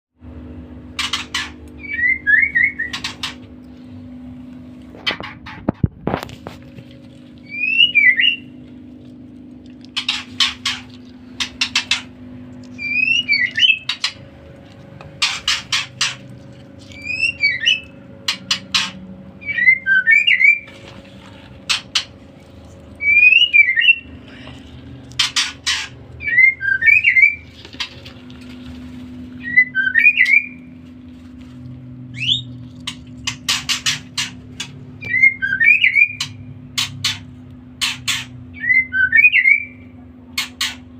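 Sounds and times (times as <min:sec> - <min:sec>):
low hum: 0:00.2 - 0:40.3.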